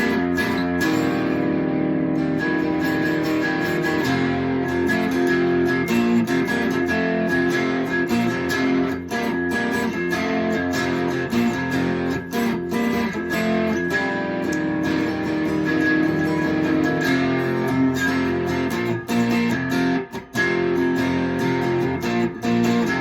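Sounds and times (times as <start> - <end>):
guitar strummed and picked: 0.0 - 23.0.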